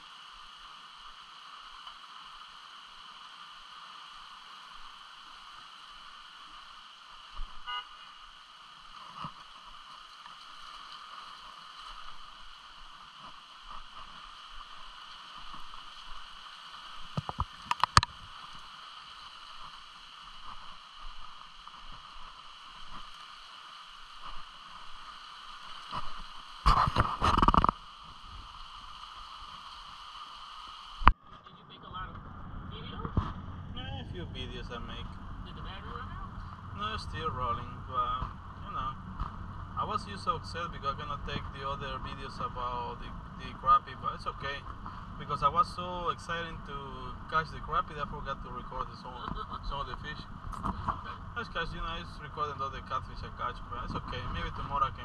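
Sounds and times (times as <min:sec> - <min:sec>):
steady outdoor hiss: 0:00.0 - 0:55.0.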